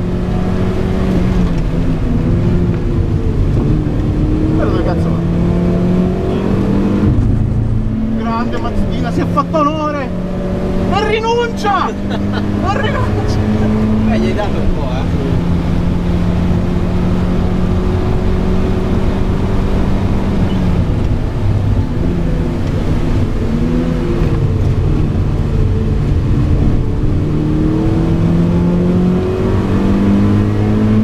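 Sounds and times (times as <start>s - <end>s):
car engine revving from inside: 0.0s - 31.0s.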